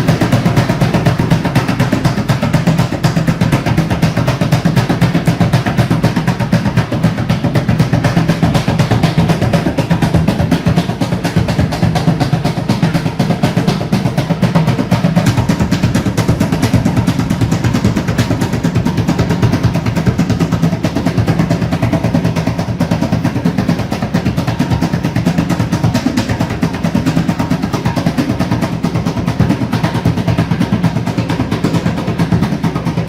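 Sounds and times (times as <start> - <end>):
drum beaten rapidly: 0.0 - 33.0.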